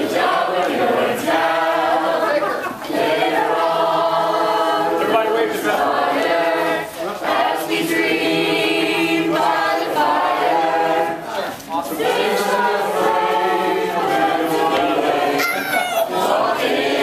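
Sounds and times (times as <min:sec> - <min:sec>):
group singing in chorus: 0:00.0 - 0:17.0.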